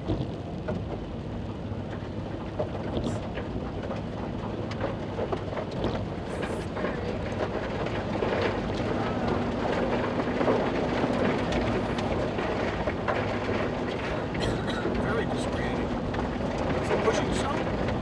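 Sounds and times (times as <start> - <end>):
low engine hum: 0.0 - 18.0
water and hail splashing: 0.0 - 18.0.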